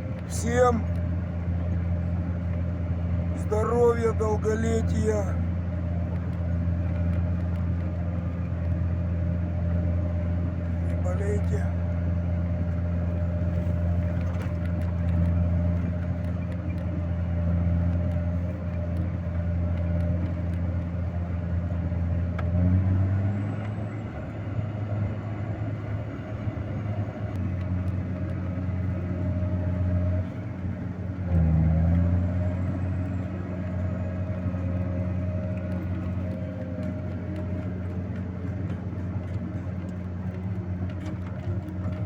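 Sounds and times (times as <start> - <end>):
vehicle engine running: 0.0 - 42.0.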